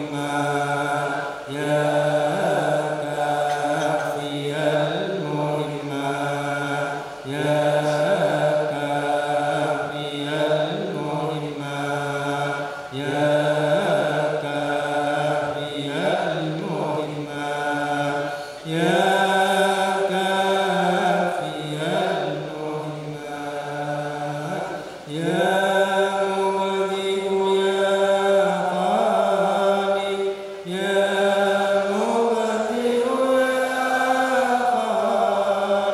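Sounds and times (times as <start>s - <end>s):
voices chanting: 0.0s - 35.9s.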